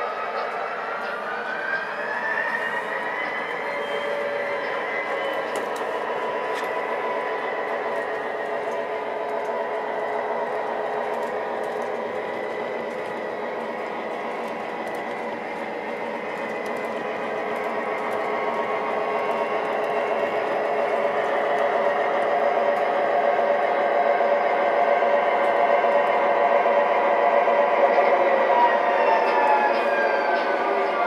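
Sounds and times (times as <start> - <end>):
model train whirring on track: 0.0 - 31.0.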